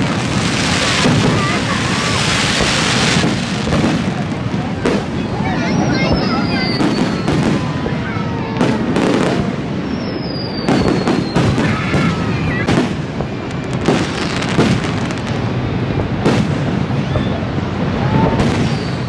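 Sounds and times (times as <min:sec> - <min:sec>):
falling firework whistle: 0:00.0 - 0:19.0
fireworks bangs: 0:00.0 - 0:19.0.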